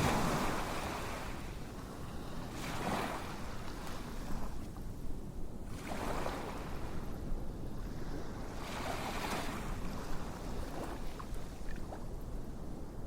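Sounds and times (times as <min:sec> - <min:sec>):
ocean waves washing in: 0:00.0 - 0:04.6, 0:05.6 - 0:11.6.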